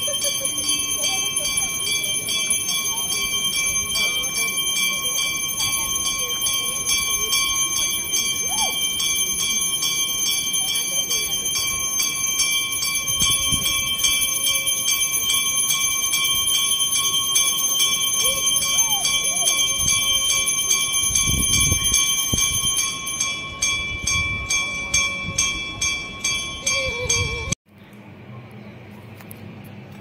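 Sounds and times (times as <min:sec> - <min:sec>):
bell rung rapidly: 0:00.0 - 0:27.6.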